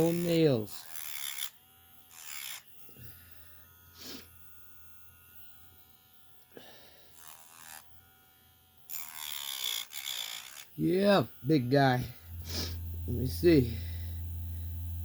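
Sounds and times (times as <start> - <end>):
electric nail grinder buzzing: 0.0 - 15.0.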